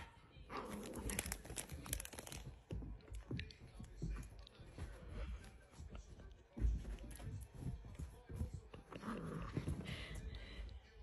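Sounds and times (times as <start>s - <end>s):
dogs rustling on couch: 0.6s - 11.0s.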